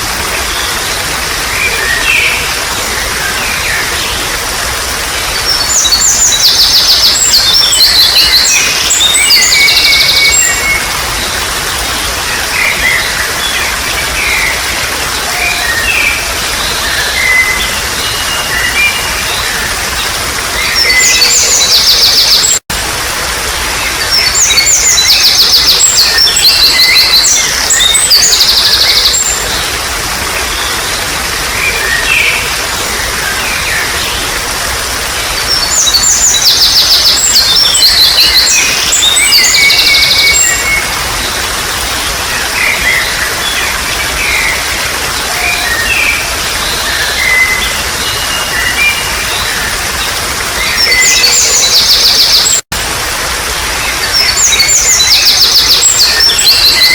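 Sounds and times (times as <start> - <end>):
running water trickling: 0.0 - 56.9.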